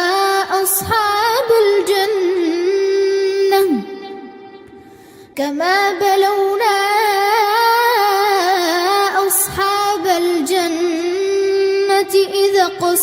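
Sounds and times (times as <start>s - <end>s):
child chanting recitation: 0.0s - 4.2s, 5.4s - 13.0s.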